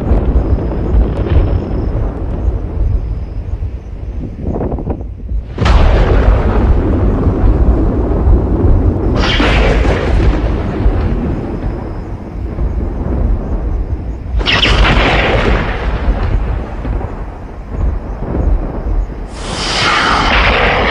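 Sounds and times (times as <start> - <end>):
loud thunder crack: 0.0 - 3.6, 4.6 - 20.9
low thunder rumble: 0.0 - 20.9.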